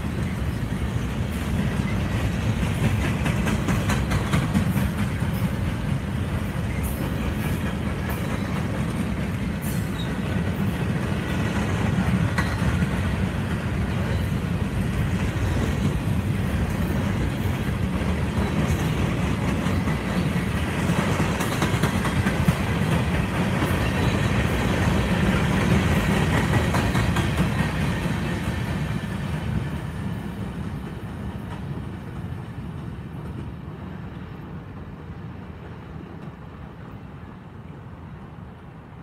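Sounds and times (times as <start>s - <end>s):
freight train wheels clattering: 0.0s - 34.2s.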